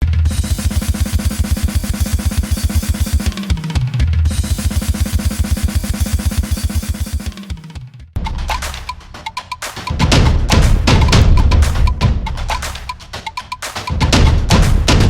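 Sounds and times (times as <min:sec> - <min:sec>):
fast kick drum pattern: 0:00.0 - 0:15.0
clicking percussion: 0:00.2 - 0:15.0.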